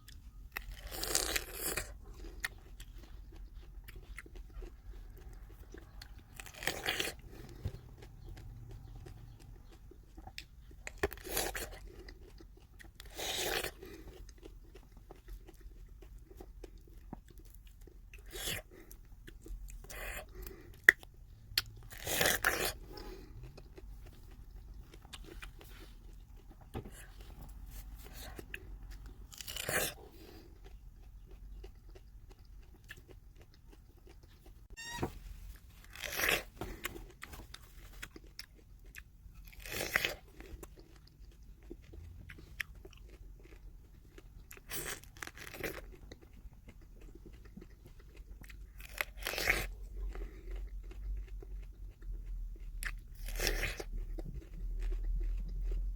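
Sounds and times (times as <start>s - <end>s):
quiet chewing: 0.0s - 34.8s, 35.7s - 55.9s.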